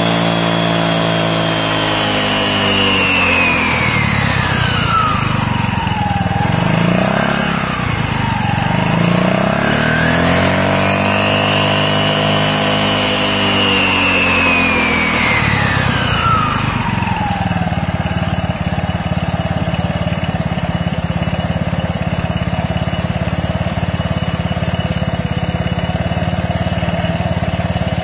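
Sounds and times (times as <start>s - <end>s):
high whine of spinning belt: 0.0s - 28.0s
scooter engine idling: 0.0s - 28.0s.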